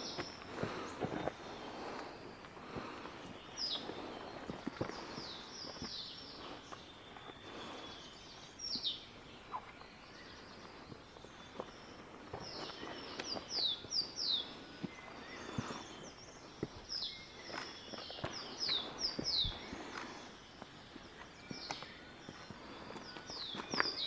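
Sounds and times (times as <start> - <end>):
faint outdoor background: 0.0 - 24.0
songbird calling: 0.0 - 24.0.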